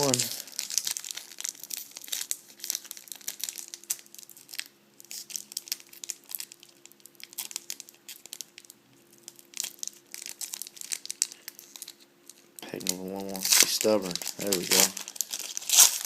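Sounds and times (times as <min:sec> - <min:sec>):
card pack wrapper crinkling: 0:00.0 - 0:16.0.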